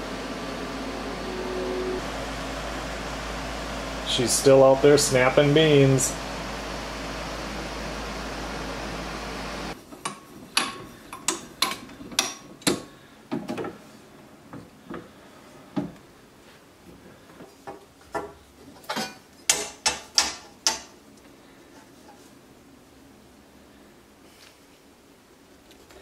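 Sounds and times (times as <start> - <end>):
fan-like hum: 0.0 - 26.0.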